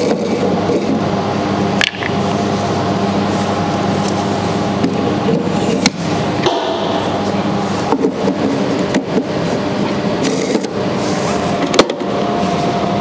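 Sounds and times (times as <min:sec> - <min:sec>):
chiller fan hum: 0:00.0 - 0:13.0.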